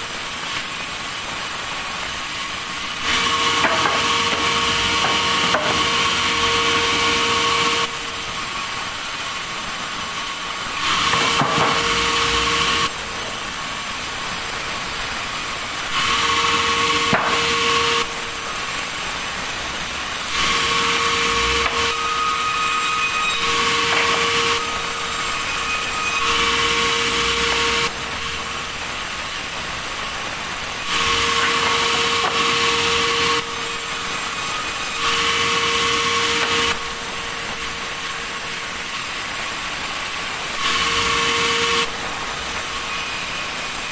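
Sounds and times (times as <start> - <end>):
sawmill saw cutting log: 2.4 - 13.8, 15.9 - 19.4, 20.2 - 39.7, 40.4 - 43.9.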